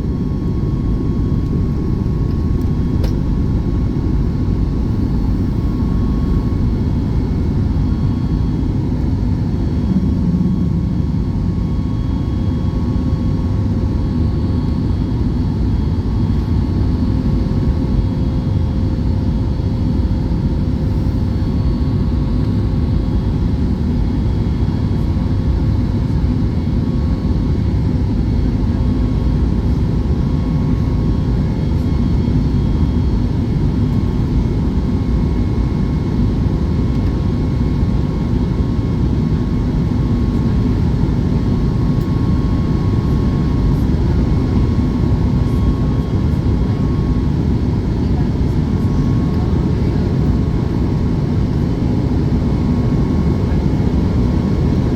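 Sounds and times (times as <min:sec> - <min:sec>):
jet engine roar in cabin: 0:00.0 - 0:54.9.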